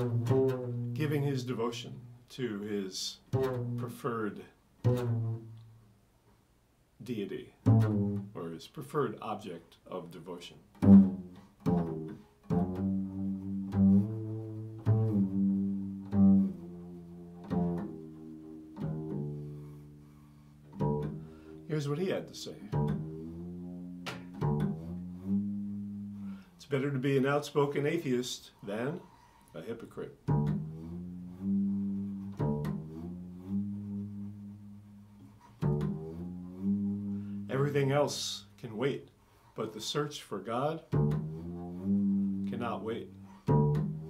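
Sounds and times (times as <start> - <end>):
plucked string instrument notes: 0.0 - 5.8, 7.6 - 8.5, 10.2 - 27.1, 29.6 - 38.9, 40.8 - 44.0.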